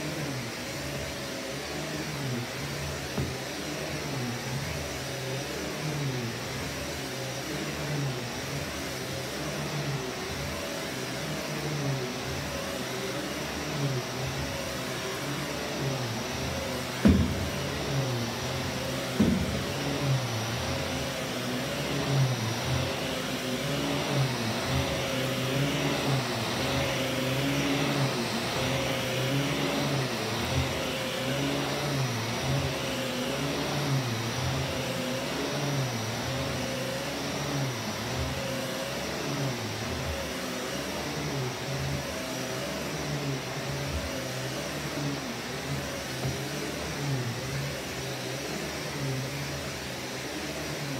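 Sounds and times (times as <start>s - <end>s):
vacuum cleaner on carpet: 0.0s - 50.9s.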